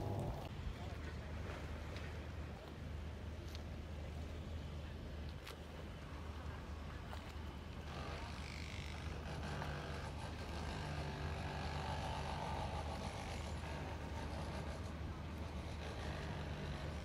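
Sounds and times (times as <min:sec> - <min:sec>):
boat engines humming: 0:00.0 - 0:17.0.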